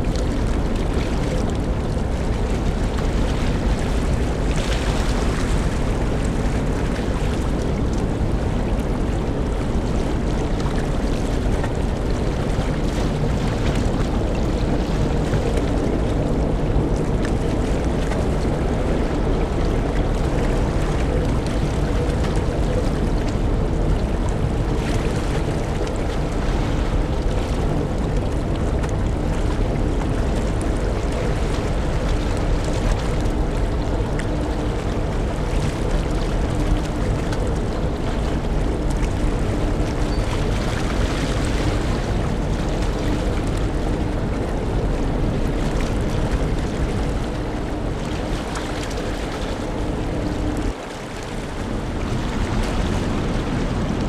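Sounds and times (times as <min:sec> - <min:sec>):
rushing water: 0:00.0 - 0:54.0
wind: 0:00.0 - 0:54.0.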